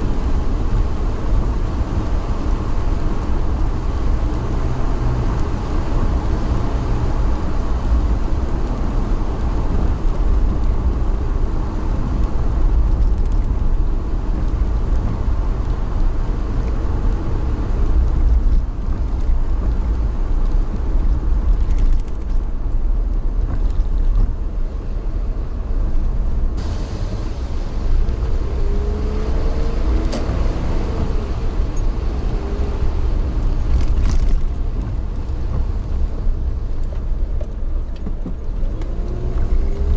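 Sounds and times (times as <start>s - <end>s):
vehicle rumble: 0.0s - 39.9s.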